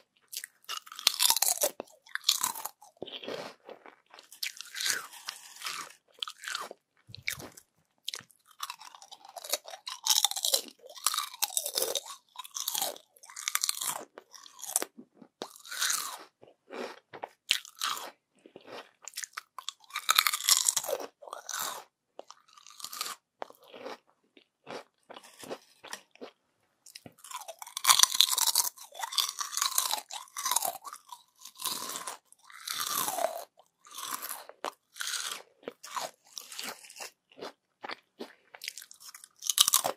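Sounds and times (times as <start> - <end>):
crunching and chewing chips: 0.0 - 39.9.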